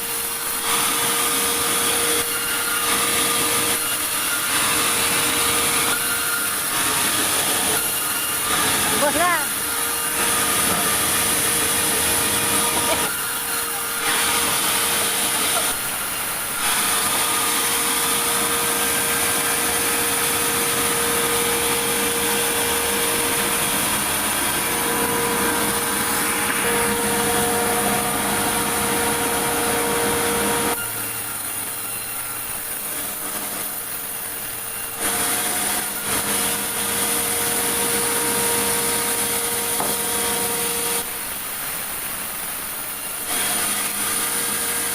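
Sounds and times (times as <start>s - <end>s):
sawmill saw cutting logs: 0.0s - 44.9s.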